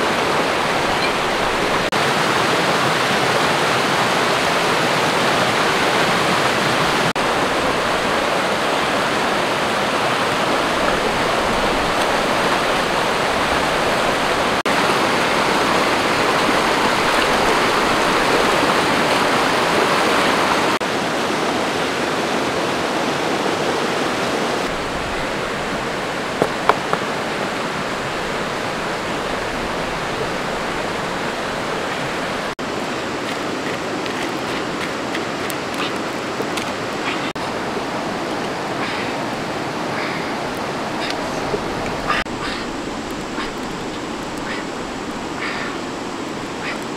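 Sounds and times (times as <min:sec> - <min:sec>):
river water rushing over rocks: 0:00.0 - 0:46.9.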